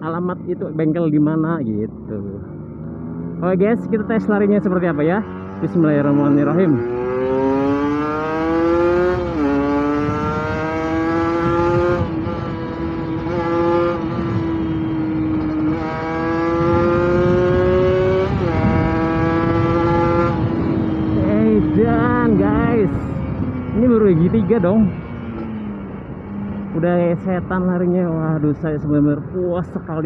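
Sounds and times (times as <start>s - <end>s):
motorcycle engine accelerating: 0.0s - 29.4s.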